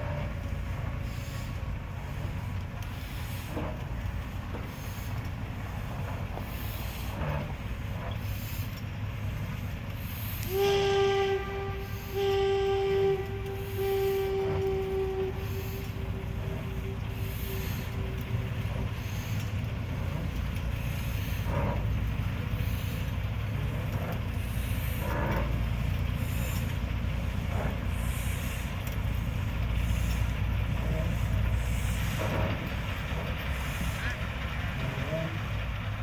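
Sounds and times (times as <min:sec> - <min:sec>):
locomotive rumbling: 0:00.0 - 0:36.0
soft hissing puffs: 0:00.2 - 0:36.0.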